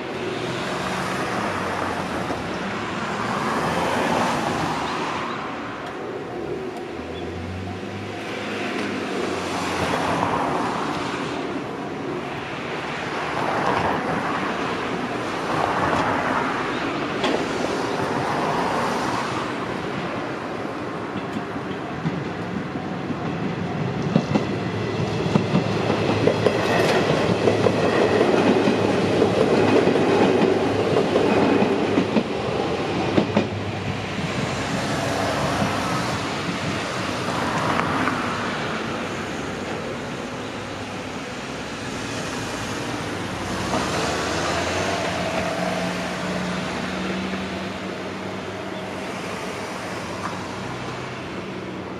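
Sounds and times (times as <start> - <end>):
electric train passing: 0.0 - 51.9.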